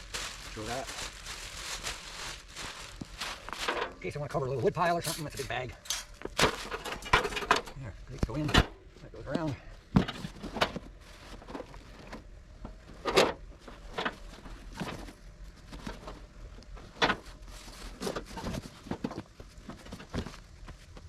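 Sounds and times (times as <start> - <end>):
plastic bag rustling: 0.0 - 7.4, 10.1 - 21.0.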